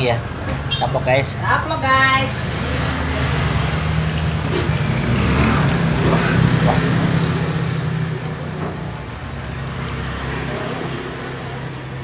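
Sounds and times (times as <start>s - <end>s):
road traffic noise: 0.0s - 12.0s
vehicle engine droning: 2.2s - 12.0s.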